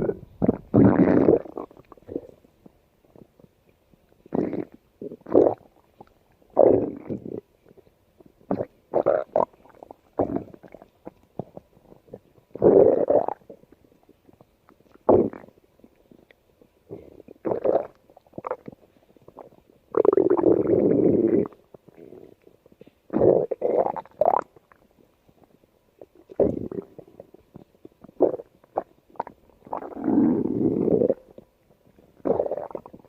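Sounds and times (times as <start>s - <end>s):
stomach growling: 0.0s - 33.0s.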